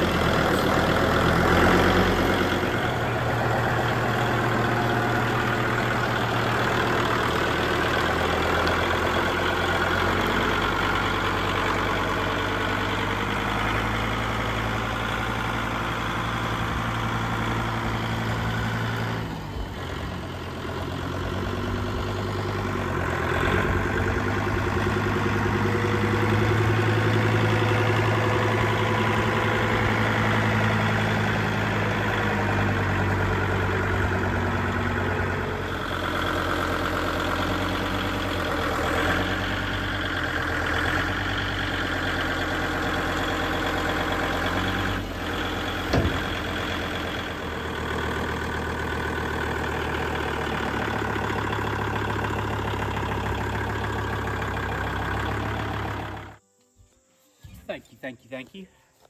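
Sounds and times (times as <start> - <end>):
tractor diesel engine running: 0.0 - 56.5.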